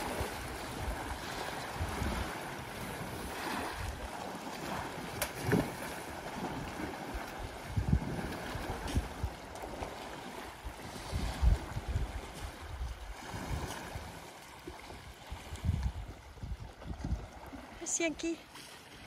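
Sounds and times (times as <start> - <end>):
wind thumping on microphone: 0.0 - 4.1, 5.0 - 9.9, 10.6 - 14.2, 14.8 - 17.6
muddy water sloshing: 0.0 - 19.0.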